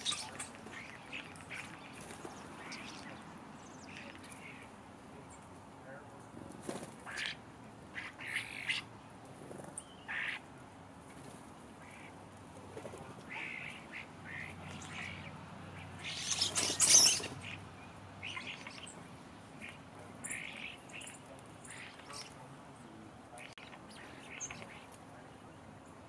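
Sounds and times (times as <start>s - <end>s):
starlings squawking and chattering: 0.0s - 26.0s.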